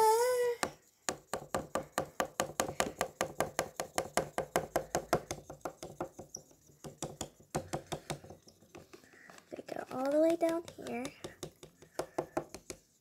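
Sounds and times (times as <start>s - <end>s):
marker scratching on whiteboard: 0.6s - 13.0s.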